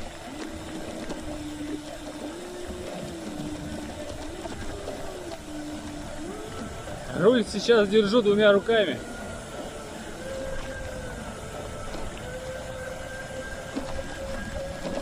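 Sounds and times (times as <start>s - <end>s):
bicycle rattling on rough path: 0.0s - 15.0s
gimbal motors whining: 0.0s - 15.0s.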